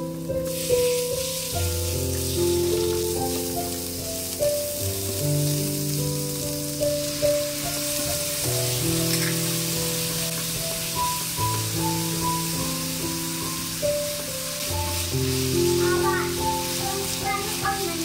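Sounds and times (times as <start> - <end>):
background music with held notes: 0.0 - 18.0
meat and garlic sizzling in a pan: 0.0 - 18.0.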